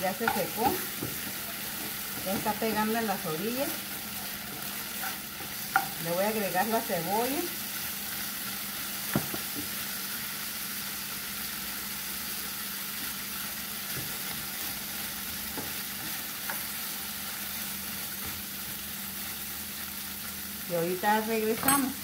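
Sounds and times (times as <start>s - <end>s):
meat and onion sizzling in oil: 0.0s - 22.0s.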